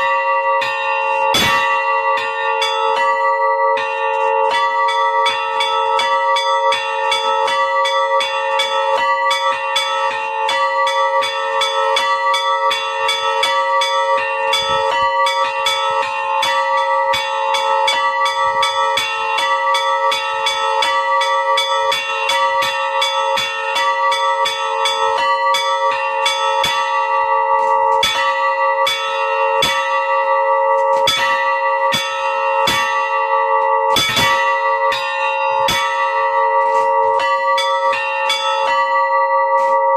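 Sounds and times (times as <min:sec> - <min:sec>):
bells ringing: 0:00.0 - 0:39.9.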